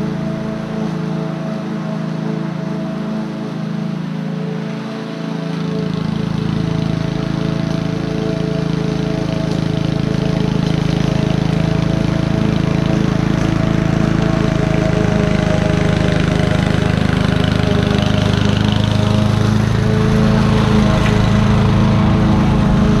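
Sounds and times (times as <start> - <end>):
lawn mower engine mowing grass: 0.0 - 23.0.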